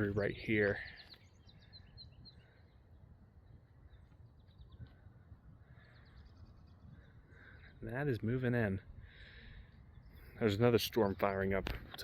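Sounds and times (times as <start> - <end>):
faint bird chirping: 0.0 - 11.6
low wind rumble: 0.0 - 12.0.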